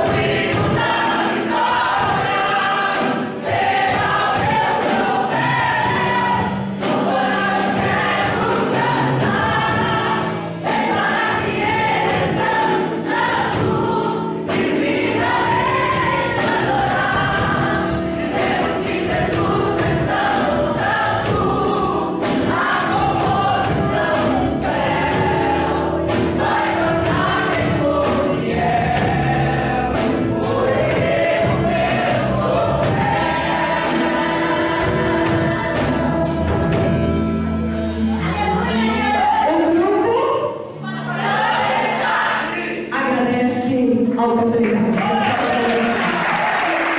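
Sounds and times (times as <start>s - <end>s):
instrumental accompaniment with beat: 0.0s - 39.9s
group singing gospel song: 0.0s - 43.3s, 45.0s - 46.9s.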